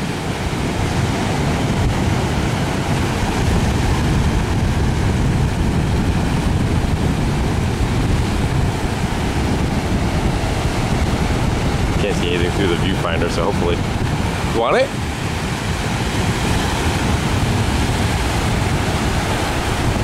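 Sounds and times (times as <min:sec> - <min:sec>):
surf breaking on beach: 0:00.0 - 0:20.0
wind rumble on microphone: 0:00.0 - 0:20.0.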